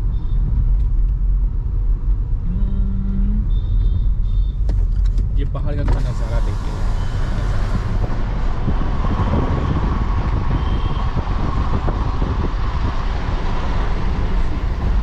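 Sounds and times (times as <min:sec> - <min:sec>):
car road noise from inside: 0:00.0 - 0:15.0.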